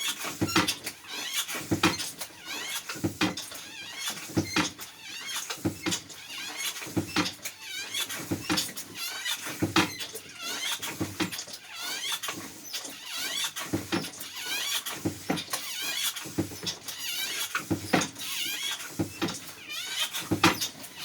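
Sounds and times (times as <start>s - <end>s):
hand pump squeaking and thumping: 0.0s - 21.0s.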